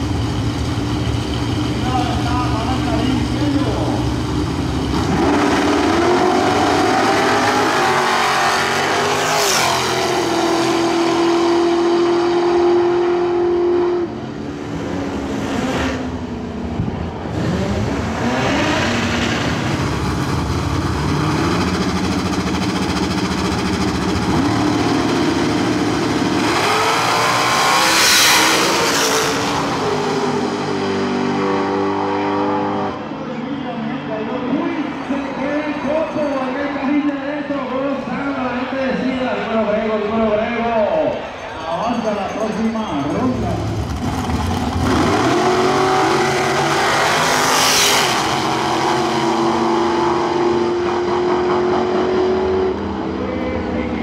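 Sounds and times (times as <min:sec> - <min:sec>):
drag racing cars full throttle: 0:00.0 - 0:54.0.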